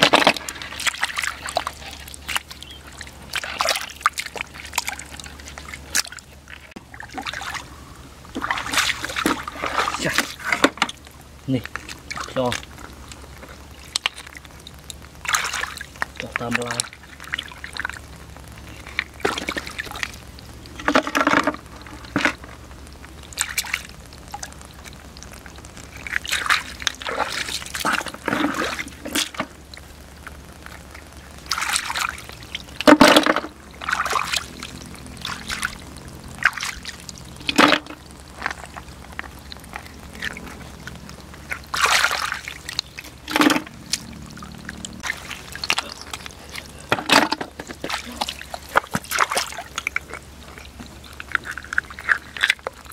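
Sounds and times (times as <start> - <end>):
muddy water splashing: 0.0 - 52.9.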